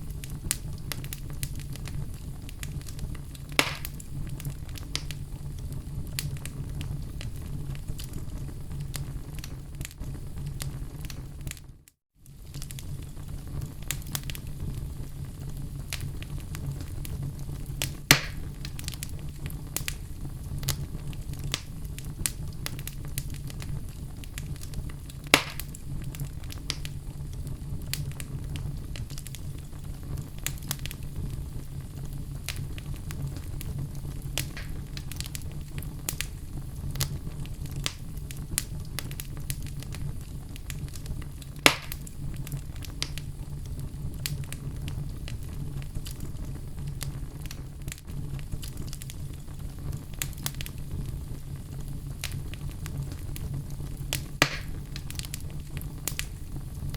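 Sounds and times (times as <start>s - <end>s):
fire crackling: 0.0s - 56.9s
loud fire pops: 0.0s - 56.9s
low rumble of flames: 0.0s - 56.9s.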